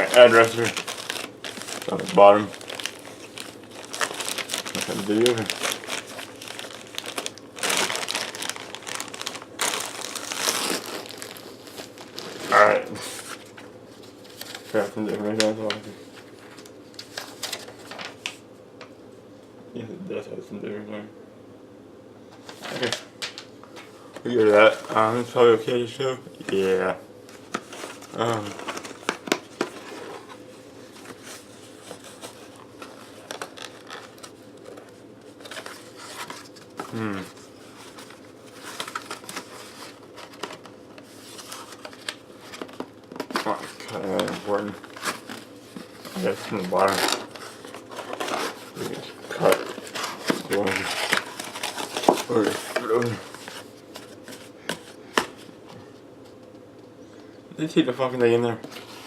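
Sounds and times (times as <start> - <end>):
packaging crinkling and rustling: 0.0 - 18.4, 24.3 - 56.4.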